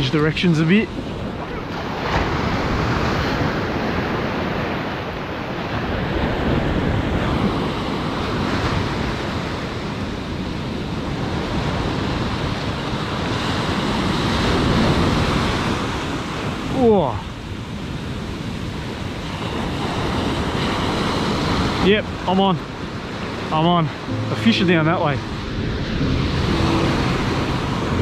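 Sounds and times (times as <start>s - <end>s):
ocean surf breaking on beach: 0.0s - 28.0s.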